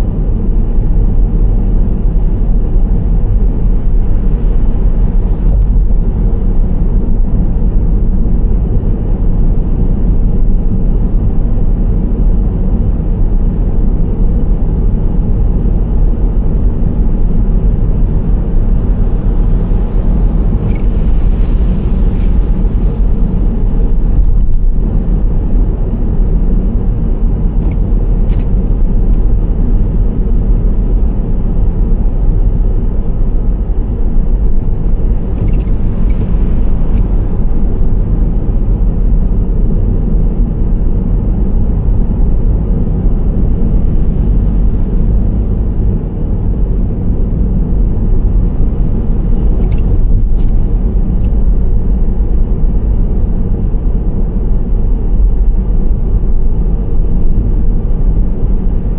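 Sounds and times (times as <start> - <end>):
car road and engine noise: 0.0 - 58.9.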